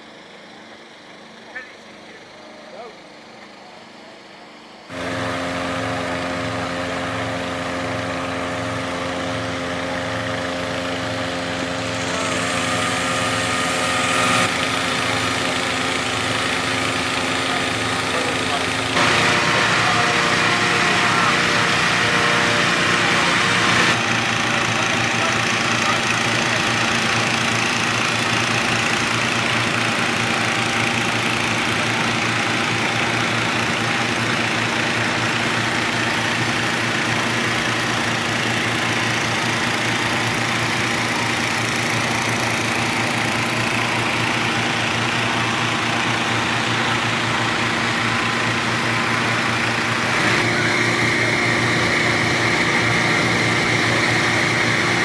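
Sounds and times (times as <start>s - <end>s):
inflator fan engine hum: 0.0s - 55.0s.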